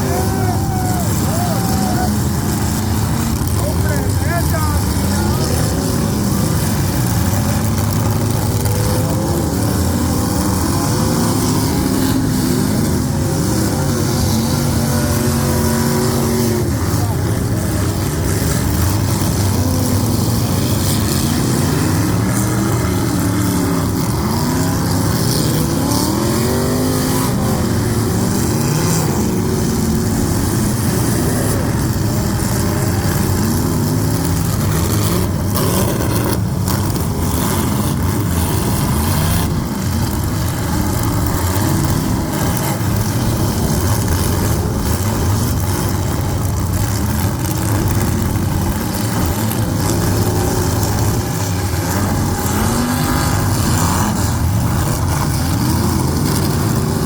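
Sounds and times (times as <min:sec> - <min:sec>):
car engines revving: 0:00.0 - 0:57.0
loud steady din: 0:00.0 - 0:57.0.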